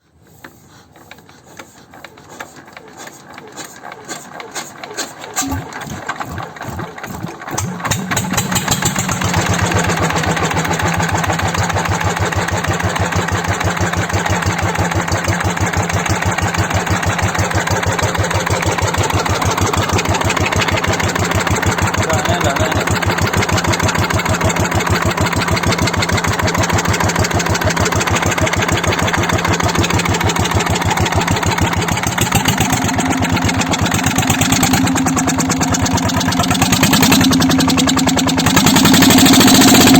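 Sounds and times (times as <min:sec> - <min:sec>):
single-cylinder diesel engine running: 0:01.9 - 0:39.9.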